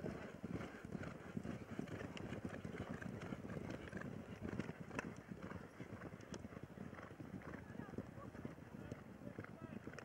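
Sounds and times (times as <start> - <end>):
hooves galloping on grass: 0.0 - 10.0.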